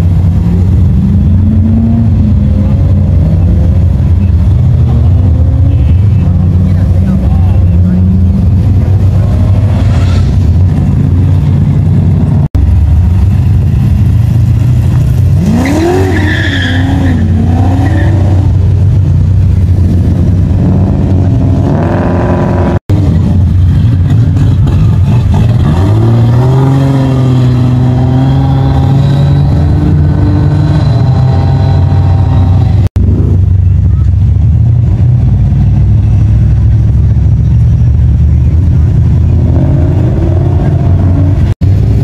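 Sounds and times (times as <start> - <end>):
car engines revving: 0.0 - 42.0.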